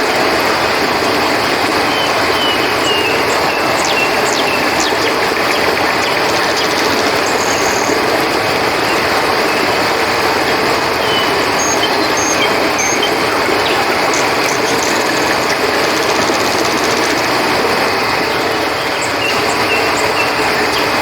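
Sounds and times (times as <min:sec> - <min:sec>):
cricket chirps: 0:00.0 - 0:20.6
river water rushing: 0:00.0 - 0:21.0.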